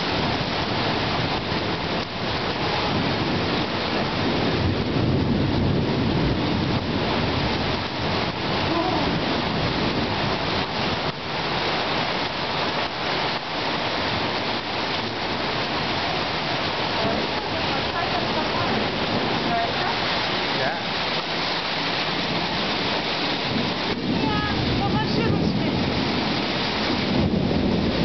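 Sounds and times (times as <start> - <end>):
heavy rain pouring: 0.0 - 28.0
thunder rumble: 0.0 - 28.0.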